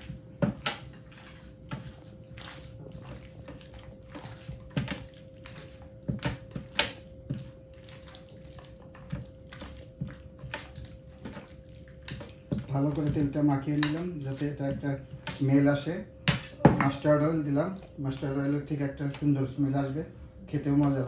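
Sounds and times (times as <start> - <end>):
wet squishing of hands on meat: 0.0 - 21.0.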